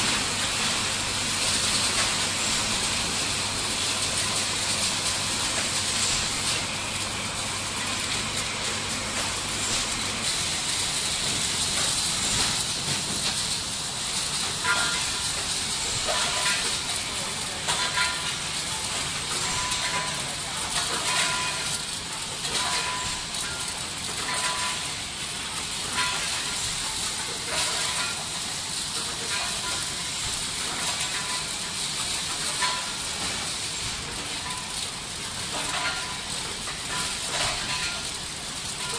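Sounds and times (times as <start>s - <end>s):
machinery hissing: 0.0s - 38.9s.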